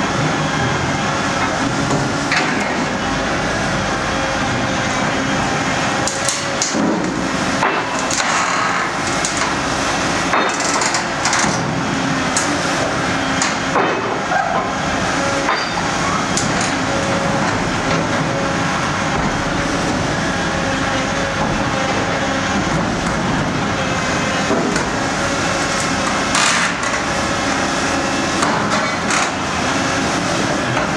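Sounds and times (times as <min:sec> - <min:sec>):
excavator engine and hydraulics: 0:00.0 - 0:30.9.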